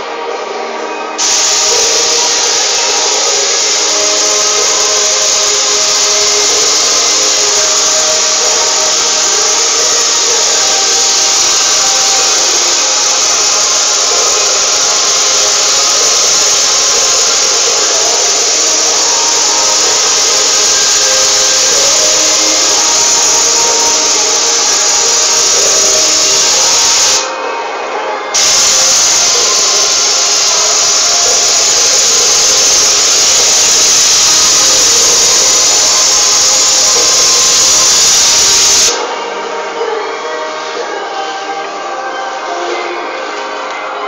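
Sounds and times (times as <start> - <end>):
paint sprayer hissing: 1.2 - 27.4, 28.4 - 39.2.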